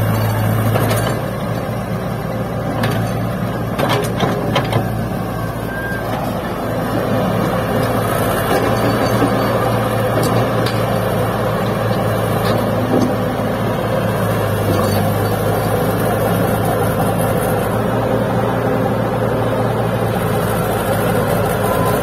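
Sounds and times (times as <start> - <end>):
excavator diesel engine humming: 0.0 - 22.0.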